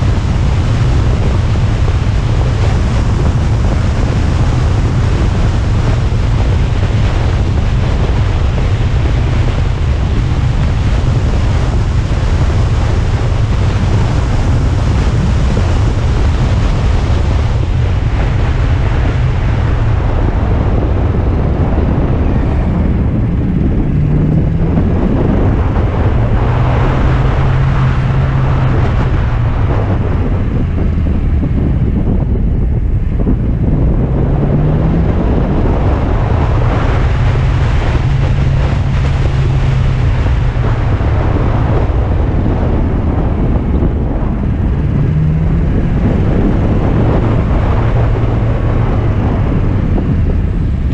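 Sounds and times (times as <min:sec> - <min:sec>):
car engine revving: 0:00.0 - 0:50.9
road noise: 0:00.0 - 0:50.9
wind buffeting microphone: 0:00.0 - 0:50.9.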